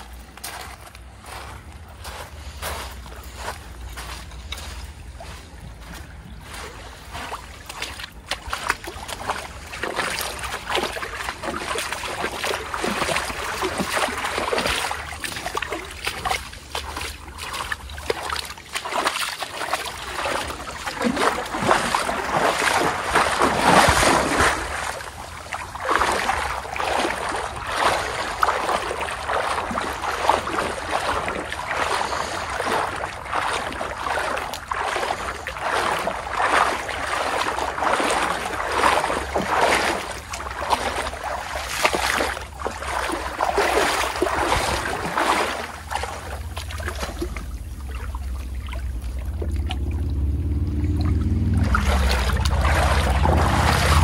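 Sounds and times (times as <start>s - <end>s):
small waves splashing at shoreline: 0.0s - 54.0s.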